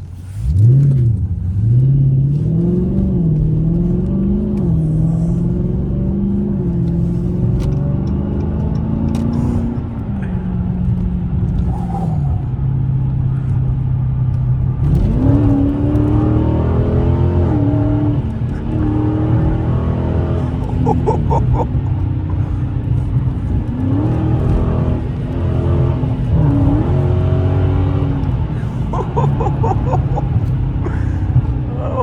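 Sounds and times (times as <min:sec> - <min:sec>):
loud car engine accelerating: 0:00.2 - 0:32.0.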